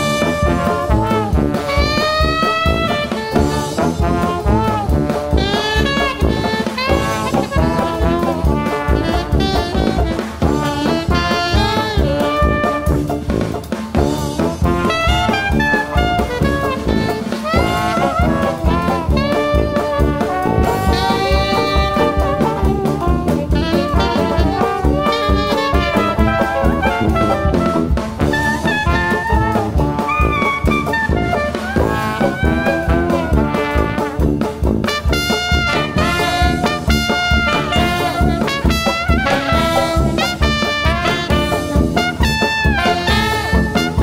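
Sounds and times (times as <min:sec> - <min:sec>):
brass swing jazz: 0:00.0 - 0:44.0.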